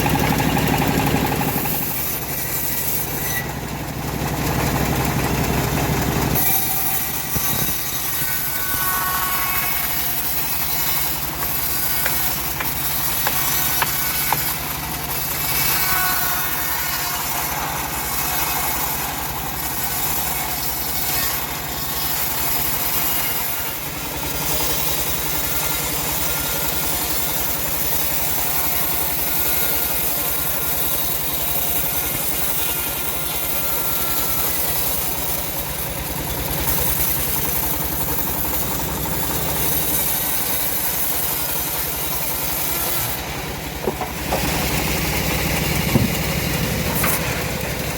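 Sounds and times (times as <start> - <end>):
bandsaw mill running: 0.0 - 47.9.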